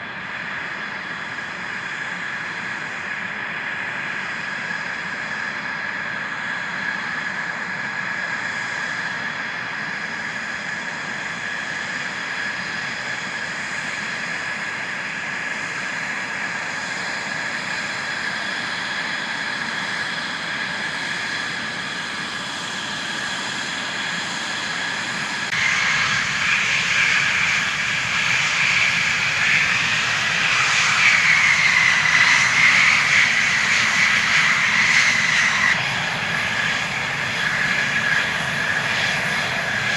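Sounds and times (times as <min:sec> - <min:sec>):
jet engine roar: 0:00.0 - 0:39.9
jet turbine whine: 0:00.0 - 0:39.9.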